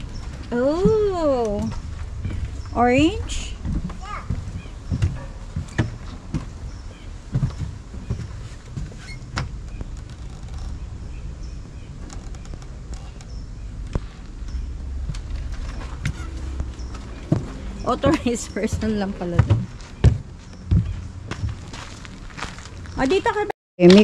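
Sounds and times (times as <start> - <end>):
steady low rumble: 0.0 - 23.5
footsteps on wooden deck: 0.0 - 24.0.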